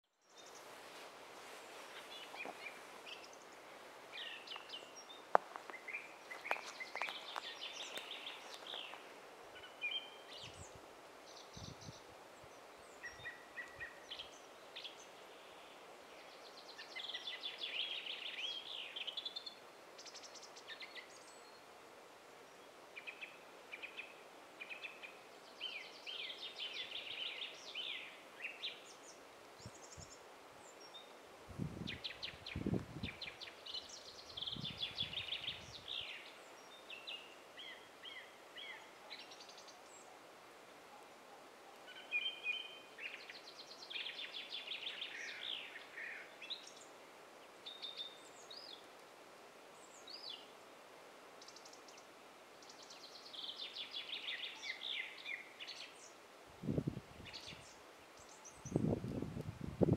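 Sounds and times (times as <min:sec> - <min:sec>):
faint steady hiss: 0:00.0 - 0:59.9
songbirds chirping and trilling: 0:00.1 - 0:59.2.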